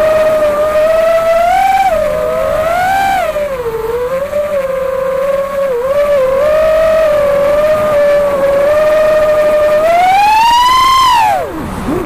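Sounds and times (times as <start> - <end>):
electric motor and propeller whining: 0.0 - 12.0.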